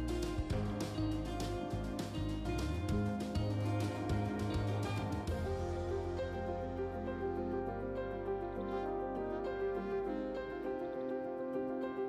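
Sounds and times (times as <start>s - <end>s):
steady low bass note: 0.0s - 10.8s.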